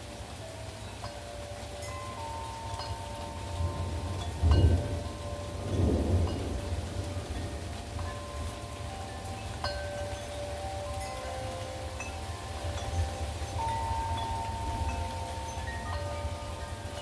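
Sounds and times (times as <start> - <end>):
wind chimes ringing: 0.0 - 17.0.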